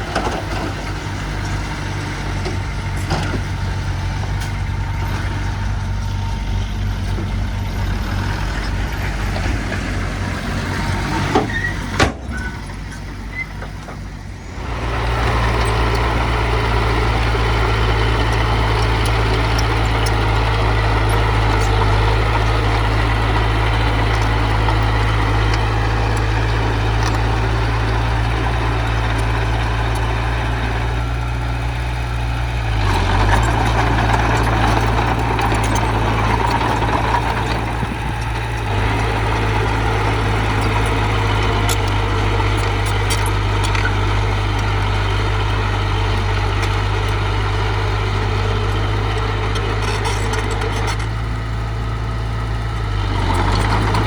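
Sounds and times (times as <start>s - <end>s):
heavy diesel engine running: 0.0s - 54.0s
machinery grinding: 0.0s - 54.0s.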